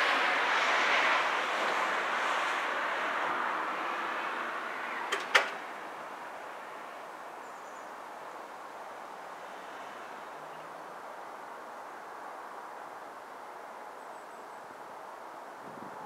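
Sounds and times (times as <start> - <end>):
broad rushing noise: 0.0 - 14.0, 14.6 - 16.0.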